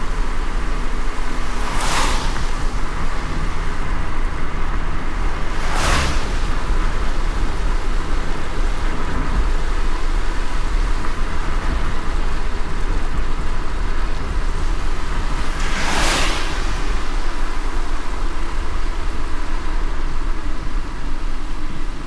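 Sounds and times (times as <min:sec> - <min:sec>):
car engine and road rumble: 0:00.0 - 0:22.0
rain and wet tyres hissing: 0:00.0 - 0:22.0.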